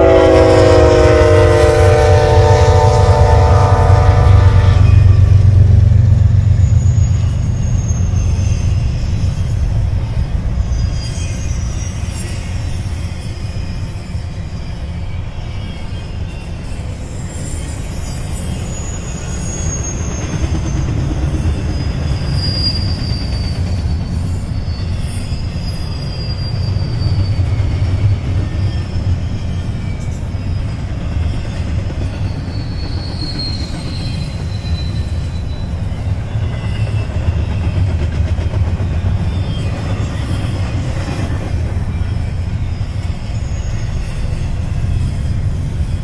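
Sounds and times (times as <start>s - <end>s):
freight cars rumbling on track: 0.0s - 46.0s
wheel squeals: 4.4s - 46.0s.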